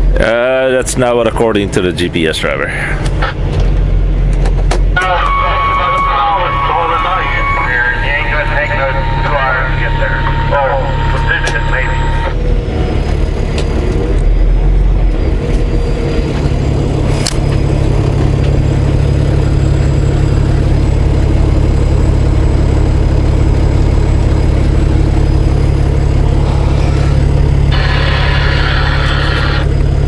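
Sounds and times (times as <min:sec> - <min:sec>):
truck diesel engine droning: 0:00.0 - 0:30.0.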